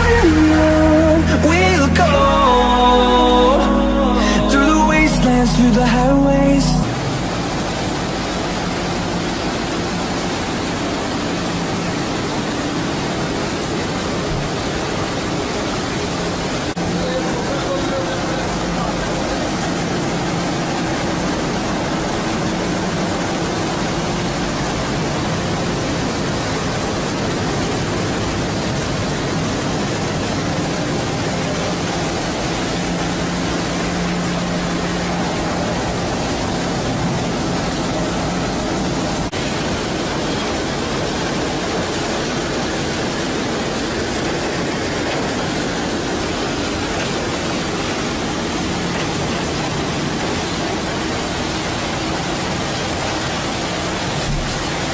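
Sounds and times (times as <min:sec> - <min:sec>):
boat engine drone: 0:00.0 - 0:54.9
water rushing: 0:00.0 - 0:54.9
wind at sea: 0:06.9 - 0:54.9.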